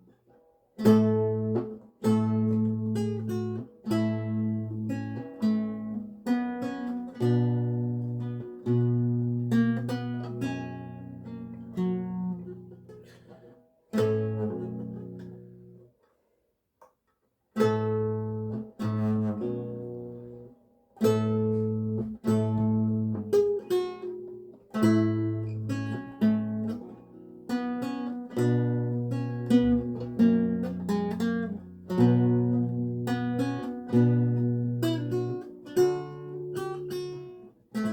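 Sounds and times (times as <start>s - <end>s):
solo lute playing: 0.0s - 15.9s, 17.6s - 37.9s.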